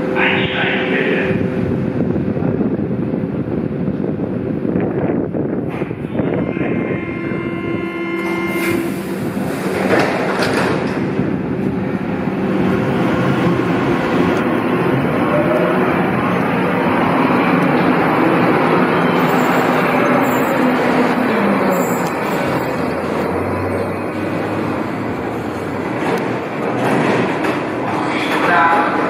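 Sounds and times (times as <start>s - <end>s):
train motor and wheel noise: 0.0s - 29.0s.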